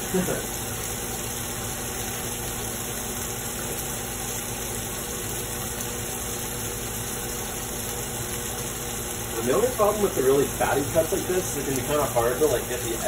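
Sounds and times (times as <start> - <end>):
steak sizzling in a frying pan: 0.0 - 13.0.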